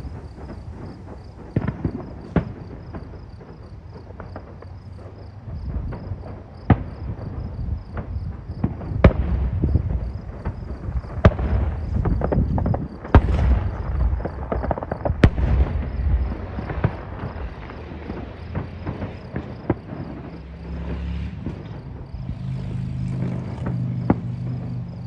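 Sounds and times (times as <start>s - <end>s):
fireworks bangs: 0.0s - 25.0s
fireworks crackling: 0.0s - 25.0s
low rolling booms: 0.0s - 25.0s.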